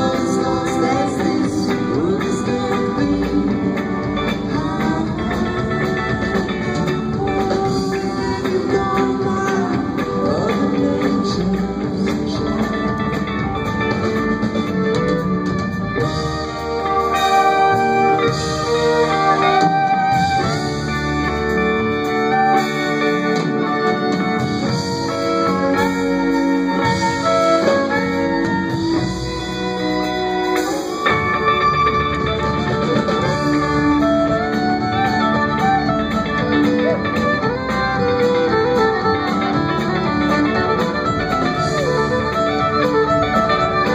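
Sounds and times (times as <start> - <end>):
live band instrumental: 0.0 - 43.9
sliding guitar notes: 0.0 - 43.9.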